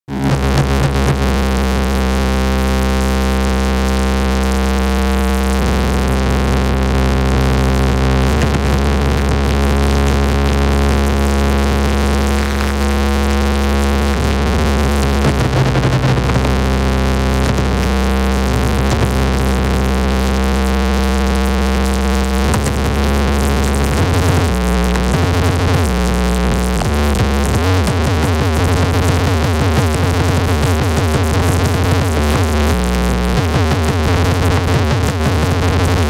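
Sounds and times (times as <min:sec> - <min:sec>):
deep bass drone: 0:00.0 - 0:36.0
loud synthesizer chords: 0:00.1 - 0:36.0.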